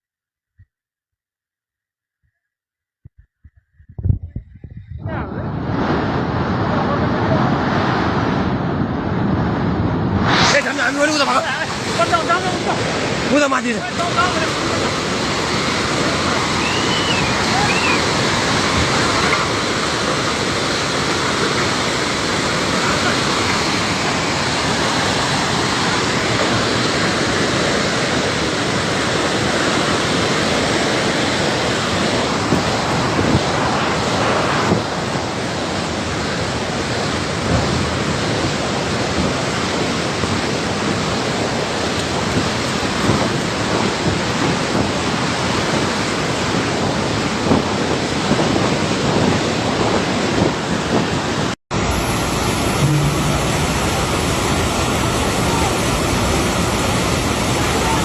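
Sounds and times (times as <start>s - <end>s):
floodwater rushing: 9.2s - 58.0s.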